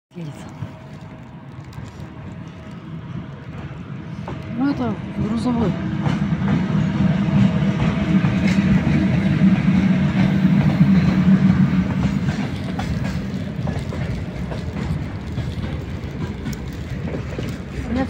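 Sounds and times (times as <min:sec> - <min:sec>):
freight train rumbling past: 0:00.2 - 0:18.0
wheels clacking over rail joints: 0:01.5 - 0:18.0.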